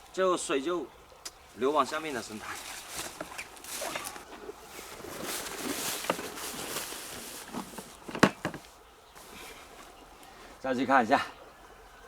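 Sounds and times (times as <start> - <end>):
footsteps through vegetation: 1.3 - 11.0.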